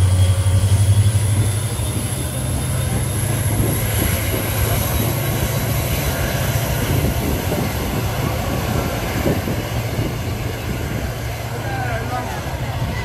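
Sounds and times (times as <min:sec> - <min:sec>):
train coaches rumbling past: 0:00.0 - 0:13.0.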